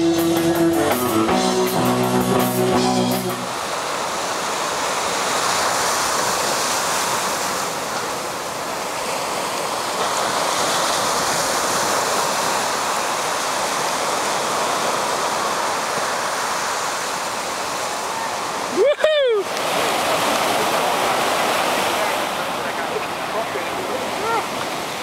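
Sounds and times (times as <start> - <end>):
ocean waves breaking: 0.0 - 25.0.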